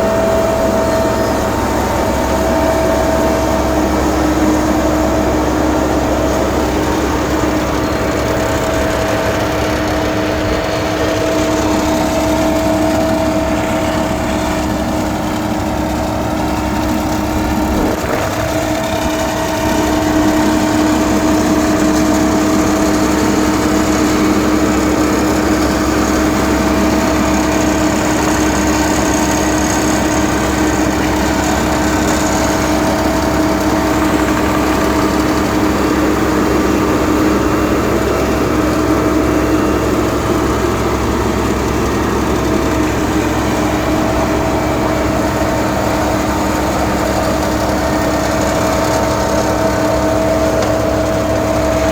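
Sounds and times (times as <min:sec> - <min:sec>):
paving machine engine running: 0:00.0 - 0:51.9.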